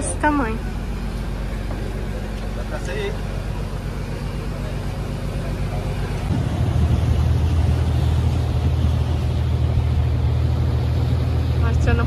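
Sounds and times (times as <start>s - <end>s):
boat engine droning: 0.0s - 12.0s
water rushing past boat: 0.0s - 12.0s.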